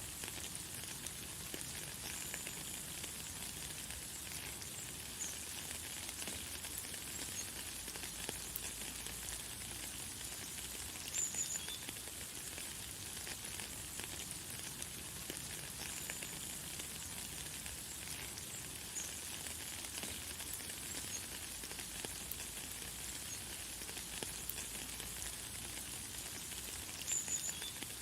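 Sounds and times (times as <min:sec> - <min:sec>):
light rain falling: 0:00.0 - 0:28.0.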